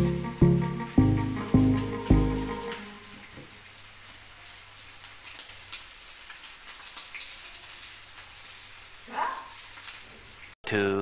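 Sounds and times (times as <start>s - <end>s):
meat sizzling on a grill: 0.0s - 10.6s.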